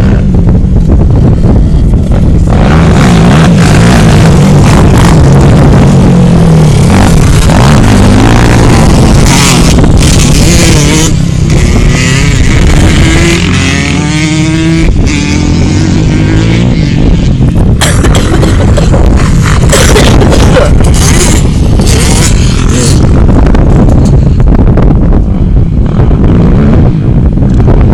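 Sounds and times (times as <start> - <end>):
atv engine revving: 0.0 - 24.4, 25.6 - 27.6.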